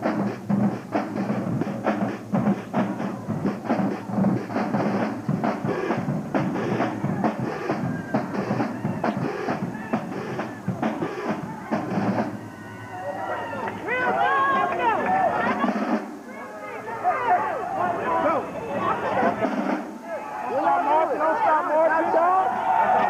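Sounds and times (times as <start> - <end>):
marching drumline cadence: 0.0 - 23.0.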